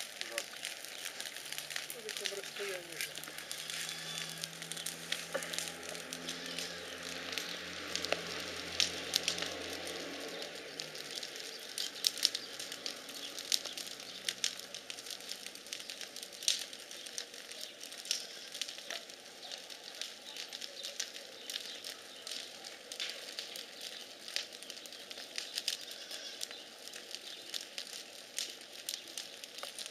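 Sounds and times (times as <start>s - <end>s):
bonfire crackling and popping: 0.0s - 29.9s.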